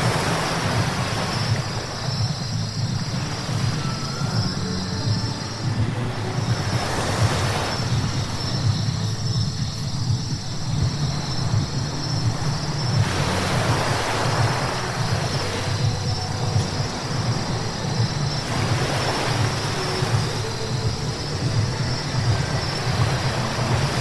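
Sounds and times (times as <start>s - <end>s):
low road rumble: 0.0s - 24.0s
tyres hissing on wet tarmac: 0.0s - 24.0s.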